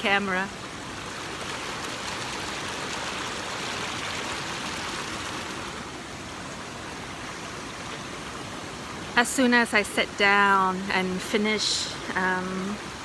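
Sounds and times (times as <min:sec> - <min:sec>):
waterfall roar: 0:00.0 - 0:13.0.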